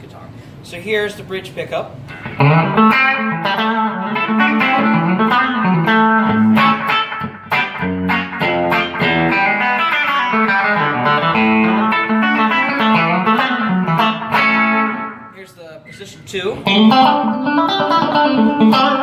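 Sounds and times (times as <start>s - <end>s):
clean electric guitar playing: 2.1s - 15.4s, 16.5s - 19.0s.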